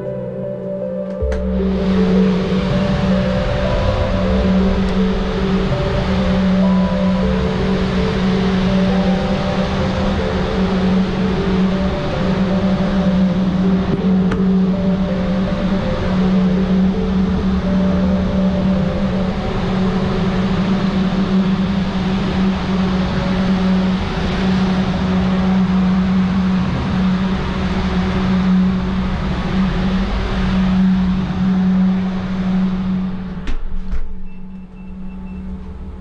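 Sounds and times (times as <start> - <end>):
rush of moving air: 0.0 - 34.1
electric fans humming: 0.0 - 36.0.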